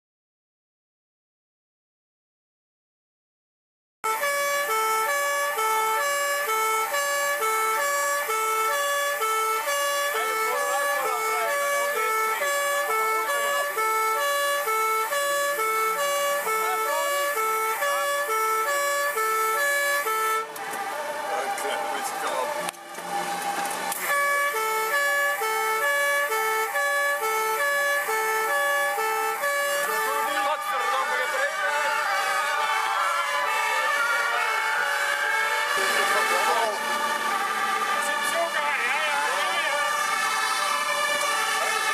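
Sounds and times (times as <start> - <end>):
two-tone fire engine siren: 4.0 - 41.9.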